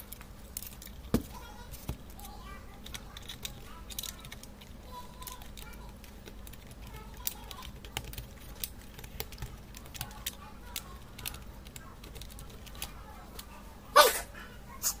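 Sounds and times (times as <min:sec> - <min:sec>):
plastic parts clicking and tapping: 0:00.0 - 0:13.5.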